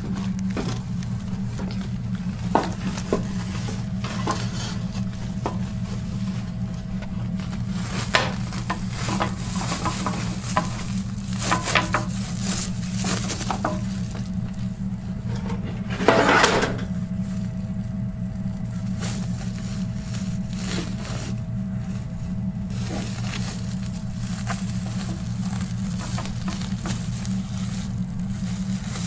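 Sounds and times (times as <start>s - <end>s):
burlap and cardboard rustling: 0.0s - 29.0s
steady low hum: 0.0s - 29.0s.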